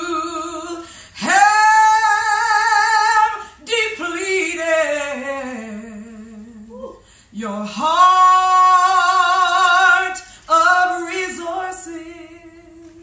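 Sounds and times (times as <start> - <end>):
woman singing a hymn: 0.0 - 13.0.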